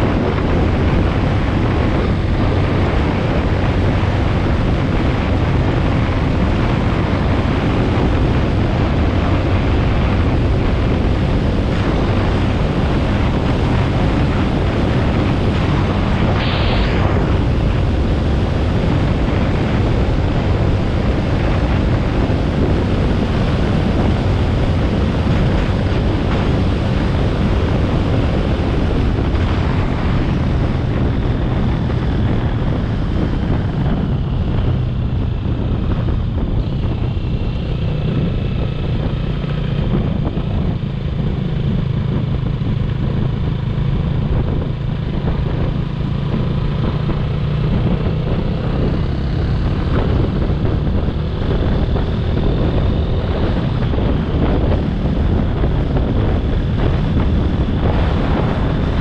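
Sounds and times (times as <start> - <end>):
motorcycle engine: 0.0 - 59.0
wind buffeting microphone: 0.0 - 59.0.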